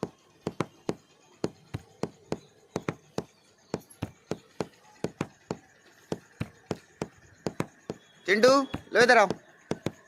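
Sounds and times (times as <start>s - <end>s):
sharp rhythmic knocks: 0.0s - 10.0s.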